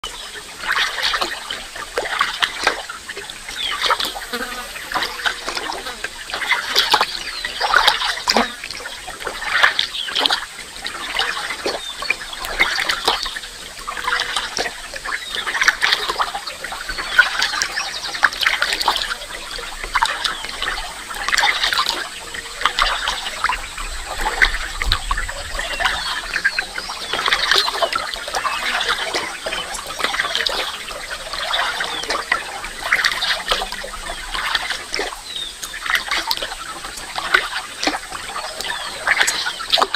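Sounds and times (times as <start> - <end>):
chorus of birds chirping: 2.9 - 10.2, 11.0 - 39.9.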